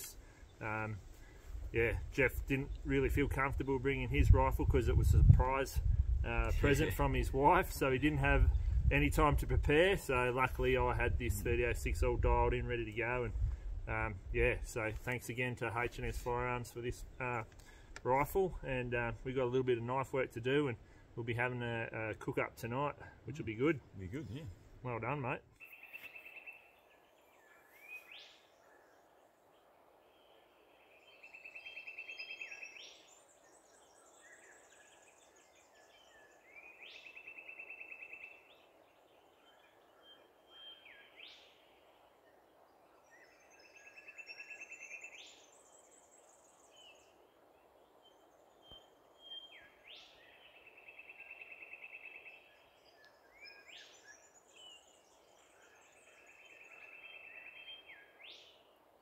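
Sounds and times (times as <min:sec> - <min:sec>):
low steady hiss: 0:00.0 - 0:59.0.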